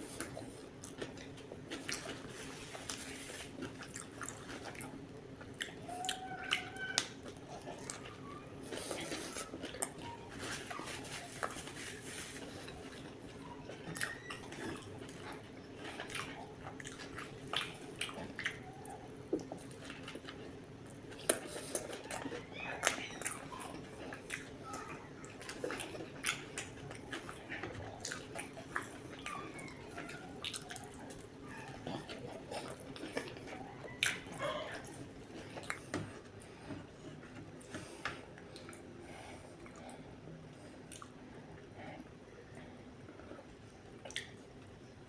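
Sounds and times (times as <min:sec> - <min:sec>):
faint steady hum: 0:00.0 - 0:45.0
chewing and mouth smacks: 0:00.1 - 0:41.7, 0:43.0 - 0:44.8.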